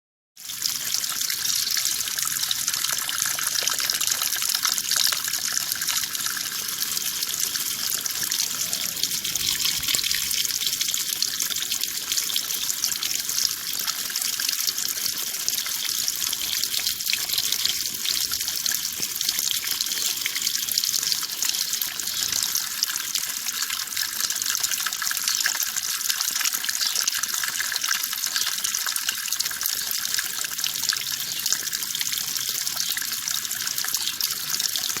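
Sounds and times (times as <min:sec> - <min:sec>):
water running steadily: 0:00.4 - 0:35.0.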